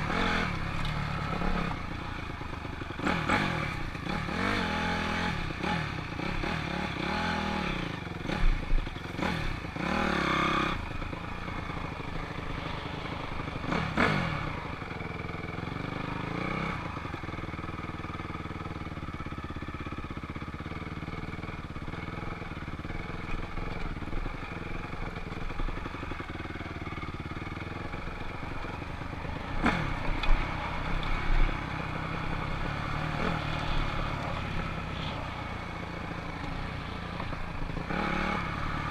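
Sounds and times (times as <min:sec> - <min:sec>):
dirt bike engine revving: 0:00.0 - 0:17.6, 0:20.4 - 0:38.9.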